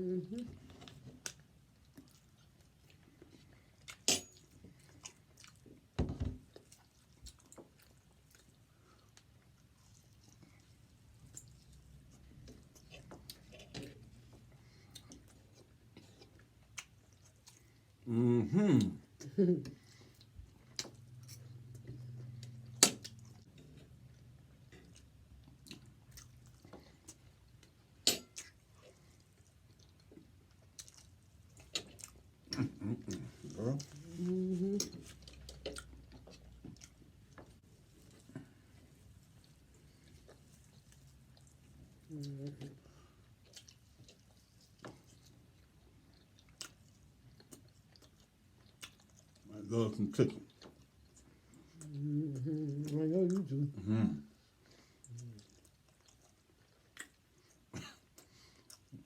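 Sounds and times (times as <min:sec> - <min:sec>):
person chewing food: 0:00.6 - 0:18.0, 0:18.8 - 0:49.5, 0:50.3 - 0:53.5, 0:54.3 - 0:59.0.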